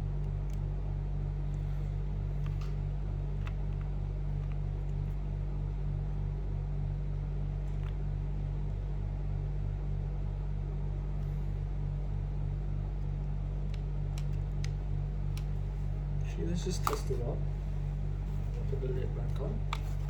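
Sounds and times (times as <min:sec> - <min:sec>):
low hum with pulsing throb: 0:00.0 - 0:20.0.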